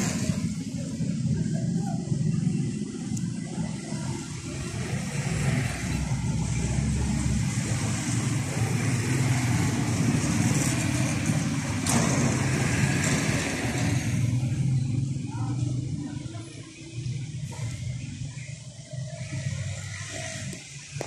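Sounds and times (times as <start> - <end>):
engine rumble and traffic: 0.0 - 21.0.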